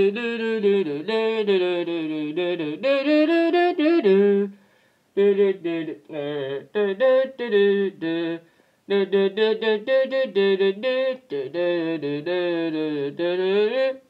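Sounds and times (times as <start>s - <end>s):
person humming a tune: 0.0s - 4.6s, 5.2s - 14.0s.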